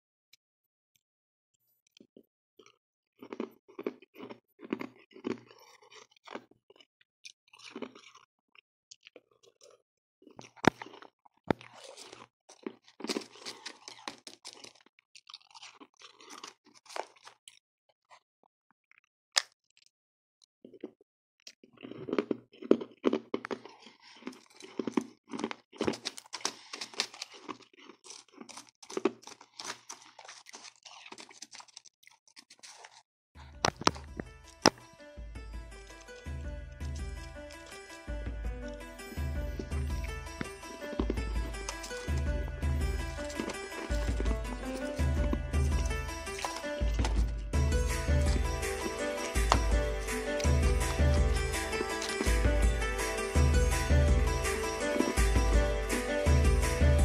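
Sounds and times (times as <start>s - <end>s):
chewing crunchy ice: 1.8s - 57.0s.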